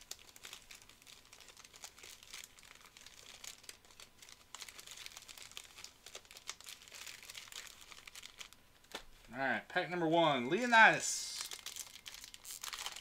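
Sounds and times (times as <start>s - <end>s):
foil wrappers crinkling: 0.0s - 8.6s, 10.6s - 13.0s.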